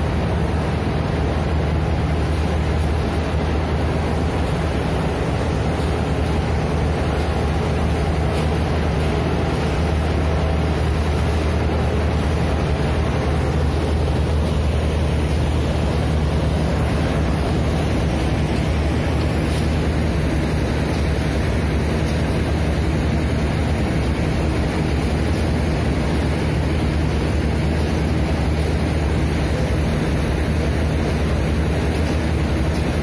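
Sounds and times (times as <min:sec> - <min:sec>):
machinery droning: 0:00.0 - 0:33.0.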